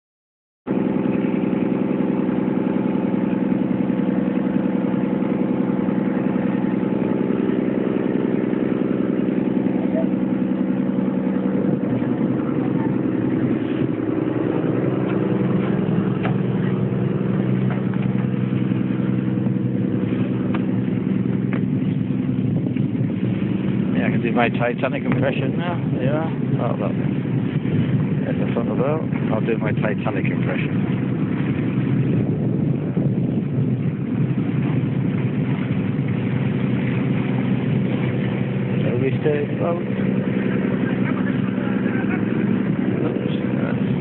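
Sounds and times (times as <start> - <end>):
boat engine droning: 0.7 - 44.0.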